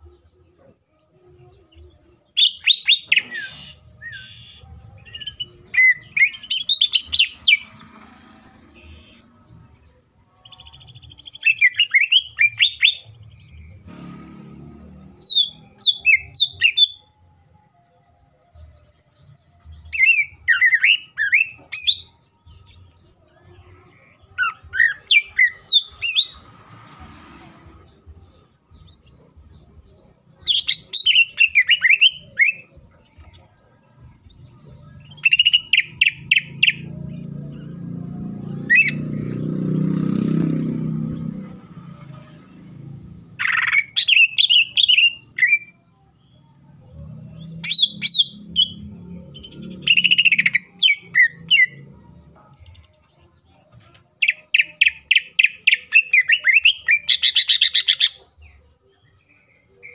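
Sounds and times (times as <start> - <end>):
bird singing sweet notes: 0.0 - 59.9.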